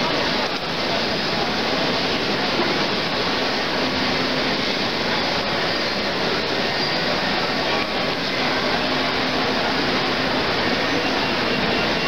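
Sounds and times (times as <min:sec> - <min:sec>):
hubbub of many people talking: 0:00.0 - 0:12.0.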